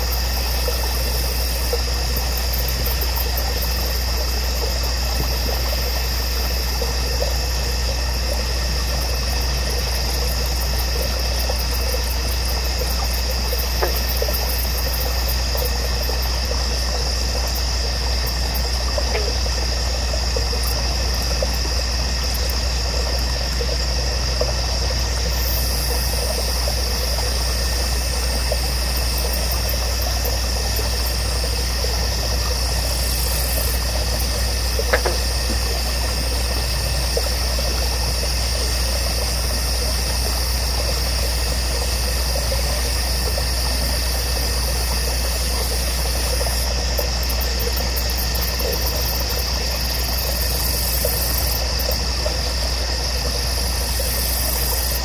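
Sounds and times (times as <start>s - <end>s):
constant low rumble: 0.0s - 55.0s
steady high-pitched hum: 0.0s - 55.0s.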